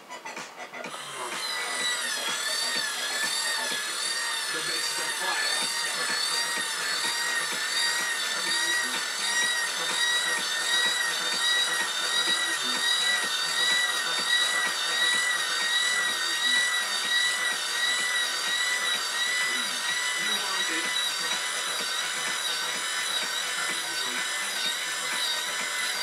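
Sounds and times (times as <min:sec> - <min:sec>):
small electric motor whining: 0:00.1 - 0:26.0.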